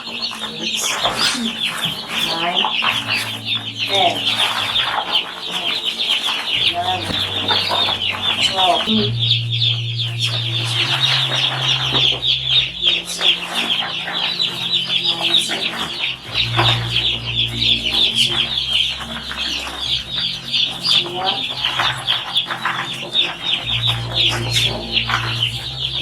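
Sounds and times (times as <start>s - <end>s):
chicks peeping: 0.0s - 26.0s
steady low hum: 0.0s - 26.0s.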